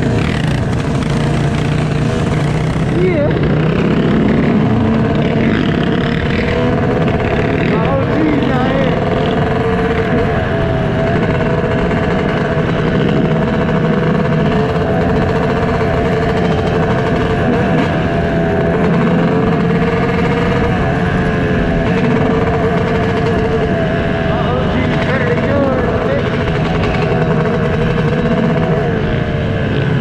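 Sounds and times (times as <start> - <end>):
dirt bike engine cruising: 0.0 - 30.0.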